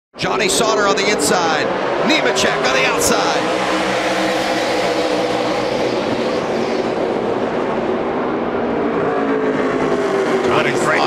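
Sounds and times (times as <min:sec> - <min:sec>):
race truck engines droning: 0:00.2 - 0:11.0.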